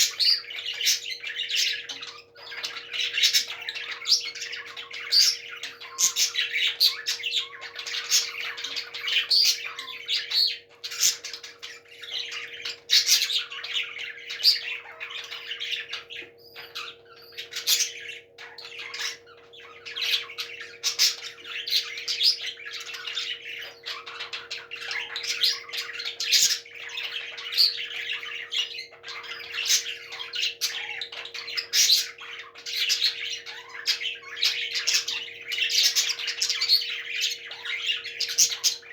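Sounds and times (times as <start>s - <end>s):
parrots squawking and chattering: 0.0s - 38.9s.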